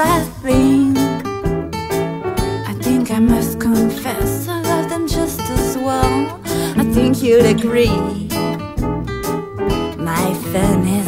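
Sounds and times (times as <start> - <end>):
guitar chords in pop song: 0.0 - 11.0.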